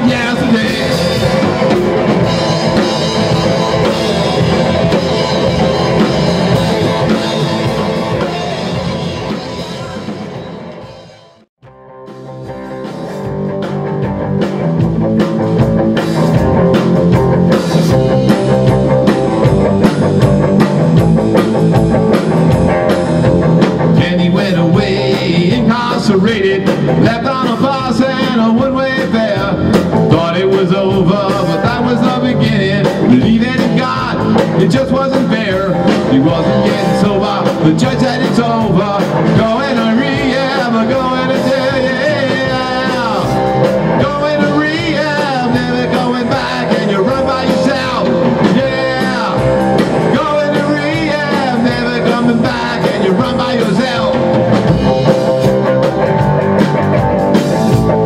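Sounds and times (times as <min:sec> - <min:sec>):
drum kit: 0:00.0 - 0:58.0
electric bass: 0:00.0 - 0:58.0
electric guitar with bending notes: 0:00.0 - 0:58.0.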